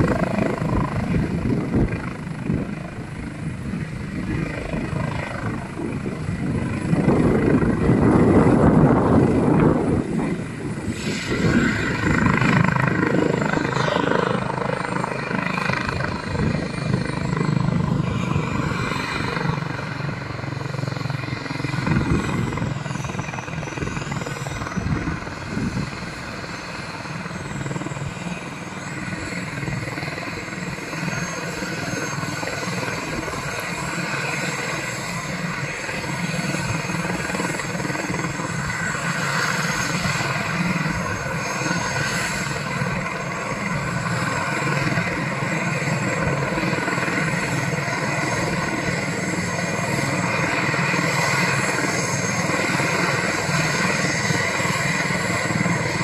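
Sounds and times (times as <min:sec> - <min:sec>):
helicopter rotor and turbines: 0:00.0 - 0:56.0.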